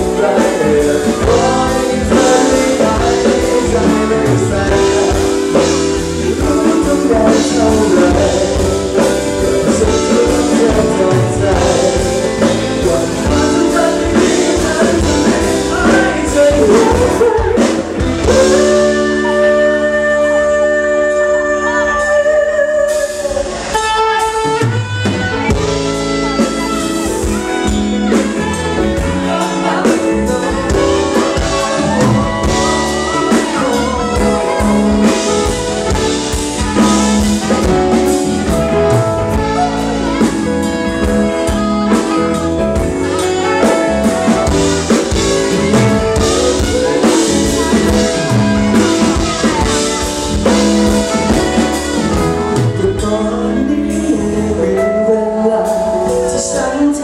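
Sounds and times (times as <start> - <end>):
man singing into microphone: 0.0 - 24.8, 25.6 - 57.0
drum kit: 0.0 - 57.0
live band playing: 0.0 - 57.0.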